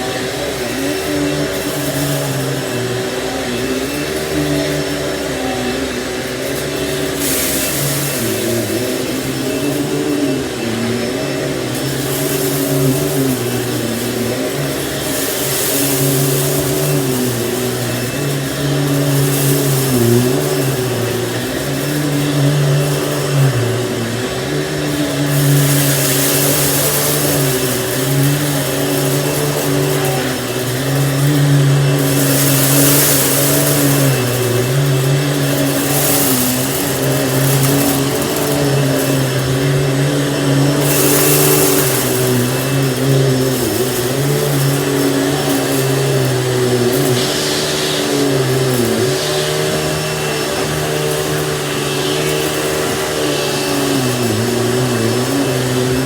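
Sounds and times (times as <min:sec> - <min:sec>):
hissing rush of air: 0:00.0 - 0:56.0
vacuum cleaner motor hum: 0:00.0 - 0:56.0.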